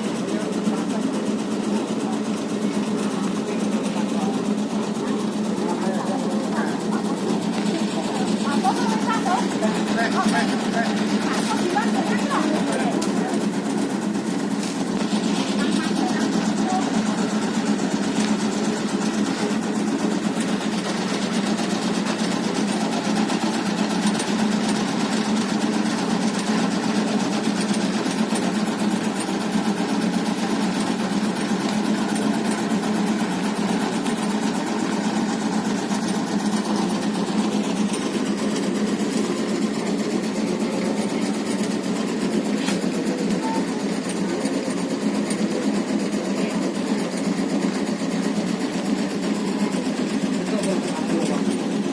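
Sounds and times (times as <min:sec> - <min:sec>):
cutting machine engine hum: 0:00.0 - 0:51.9.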